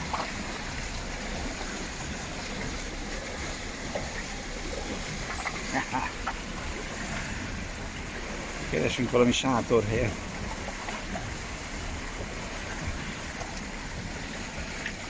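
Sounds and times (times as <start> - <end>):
water splashing along boat hulls: 0.0 - 15.0.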